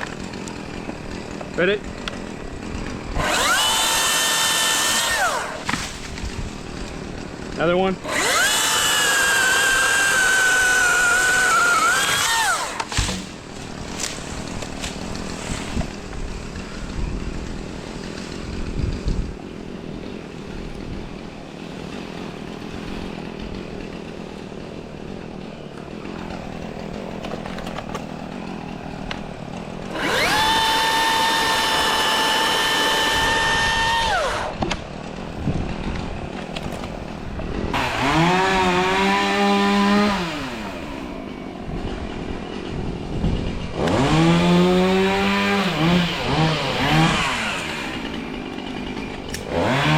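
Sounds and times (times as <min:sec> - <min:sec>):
chainsaw high whine: 0:00.0 - 0:19.0, 0:20.0 - 0:34.6, 0:37.6 - 0:49.9
chainsaw cutting wood: 0:00.0 - 0:19.3, 0:20.0 - 0:49.9.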